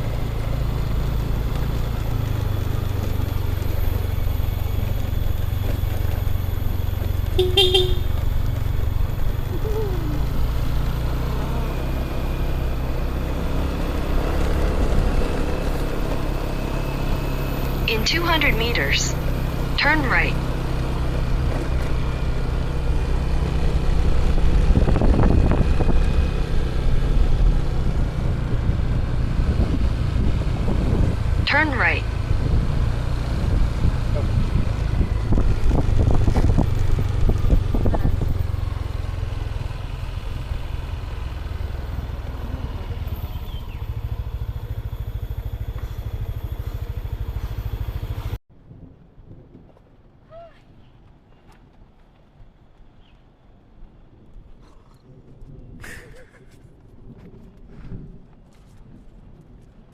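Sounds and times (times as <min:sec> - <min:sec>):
vehicle engine running: 0:00.0 - 0:48.4
road noise: 0:00.0 - 0:59.9.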